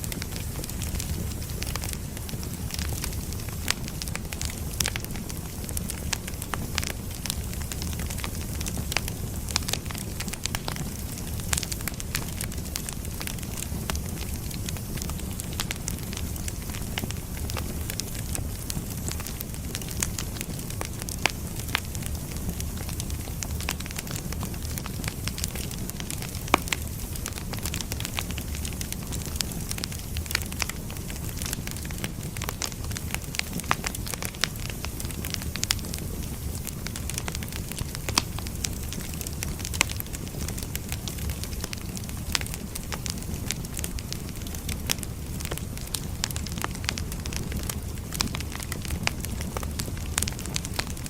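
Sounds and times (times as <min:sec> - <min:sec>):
firewood burning with crackles: 0:00.0 - 0:51.0.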